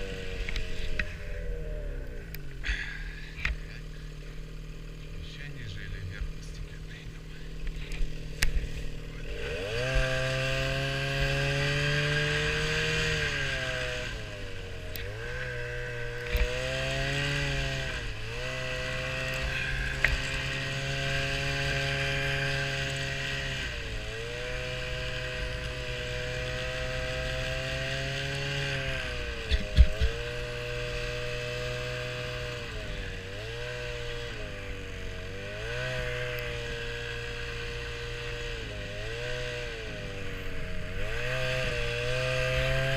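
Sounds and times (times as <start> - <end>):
small vehicle engine revving: 0.0 - 42.9.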